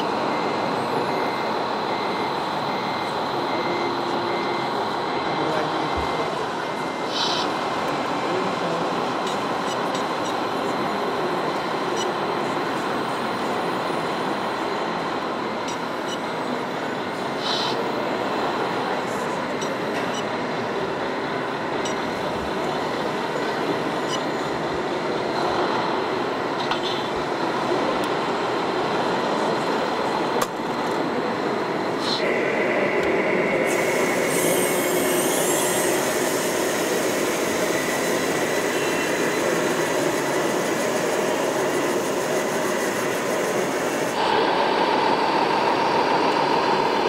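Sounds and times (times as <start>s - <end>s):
indoor hall background noise: 0.0s - 47.0s.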